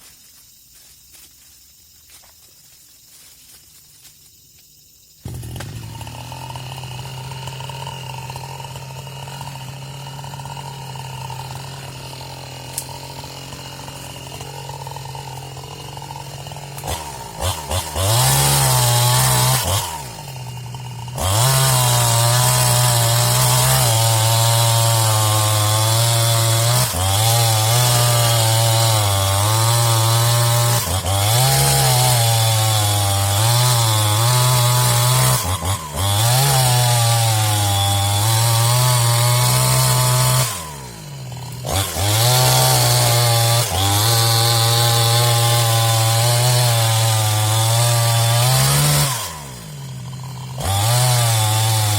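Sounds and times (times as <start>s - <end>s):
chainsaw cutting into tree: 5.2s - 51.9s
chainsaw idling and revving: 5.2s - 51.9s.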